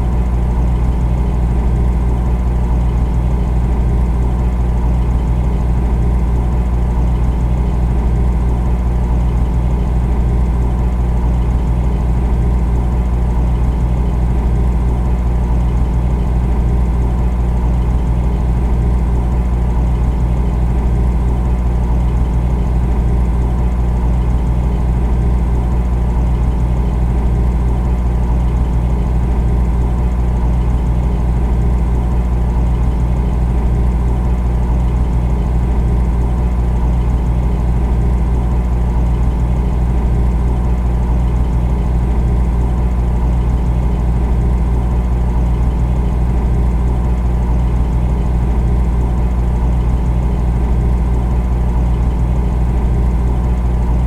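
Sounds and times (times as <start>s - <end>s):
refrigerator humming: 0.0s - 54.0s.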